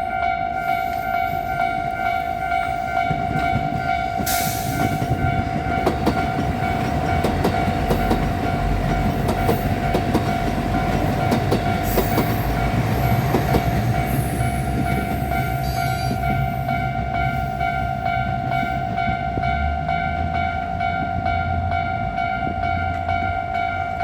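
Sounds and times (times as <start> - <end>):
train wheels rumbling and clicking: 0.0 - 24.0.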